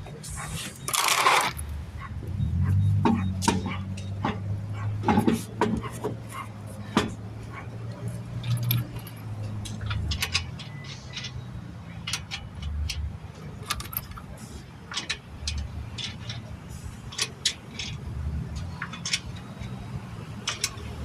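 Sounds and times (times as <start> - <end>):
metallic clinks of lug nuts: 2.9 - 21.0.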